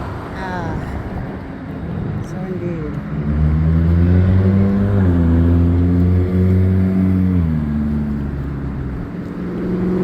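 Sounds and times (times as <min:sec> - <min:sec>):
vehicle engine drone: 0:00.0 - 0:10.0.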